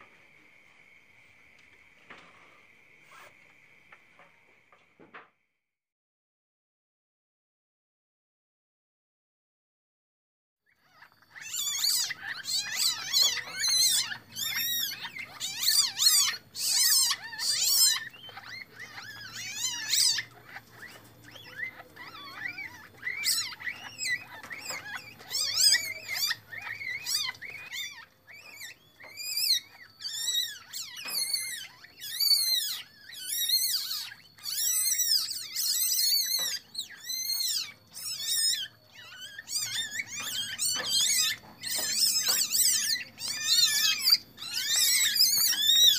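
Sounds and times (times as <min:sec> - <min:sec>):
young civets squeaking: 0:00.0 - 0:04.0, 0:10.7 - 0:45.9.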